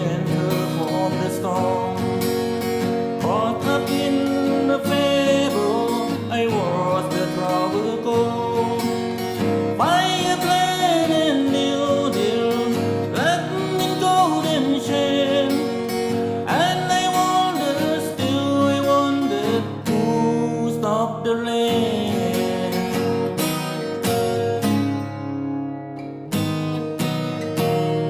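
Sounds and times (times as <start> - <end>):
person singing: 0.0 - 23.4
acoustic guitar: 0.0 - 28.0.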